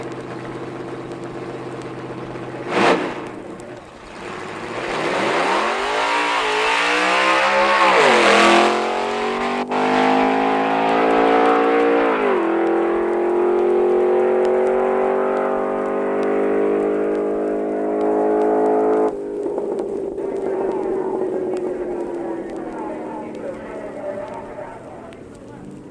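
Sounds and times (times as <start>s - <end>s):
drag racing car engine: 0.0s - 25.9s
sharp crack: 0.0s - 25.9s.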